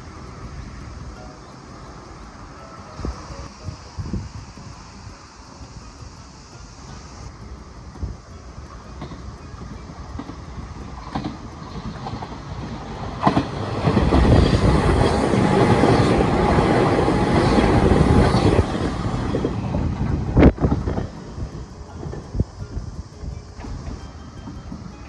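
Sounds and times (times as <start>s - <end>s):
train passing on rails: 0.0s - 25.0s.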